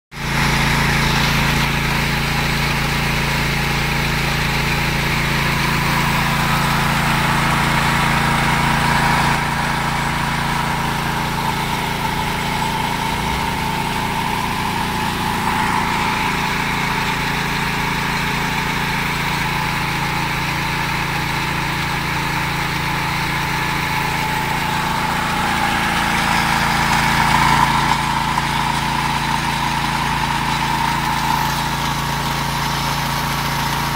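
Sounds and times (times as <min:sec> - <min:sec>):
gasoline engine running: 0:00.2 - 0:33.9.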